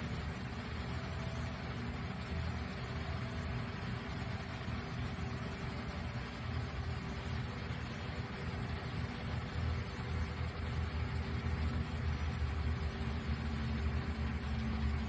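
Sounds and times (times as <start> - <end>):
motor rumbling and hissing: 0.0 - 15.0.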